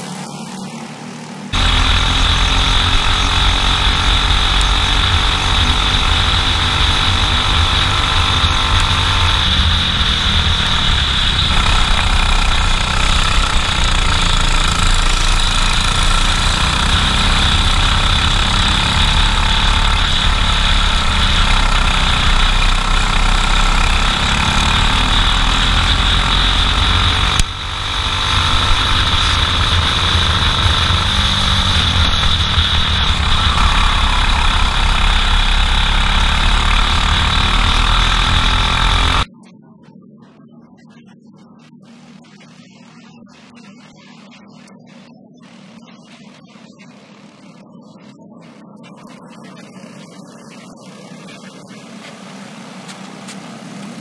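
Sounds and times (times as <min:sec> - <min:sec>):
kart engine at racing speed: 0:00.0 - 0:39.3, 0:49.3 - 0:54.0.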